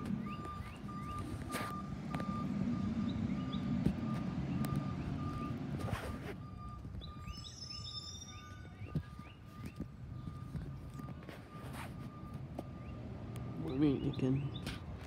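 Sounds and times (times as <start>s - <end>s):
reversing alarm beeping: 0.0s - 14.6s
diesel engine rumble: 0.0s - 15.0s.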